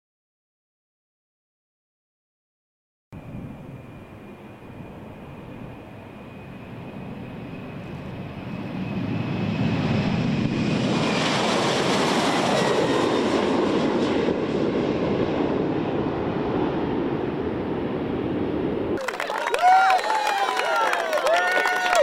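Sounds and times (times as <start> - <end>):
jet aircraft passing: 3.2 - 22.0.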